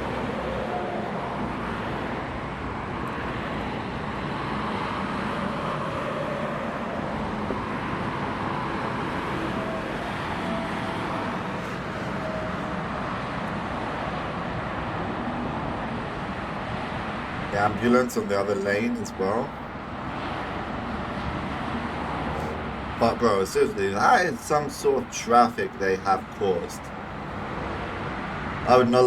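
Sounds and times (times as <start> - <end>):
motorway traffic noise: 0.0 - 29.0.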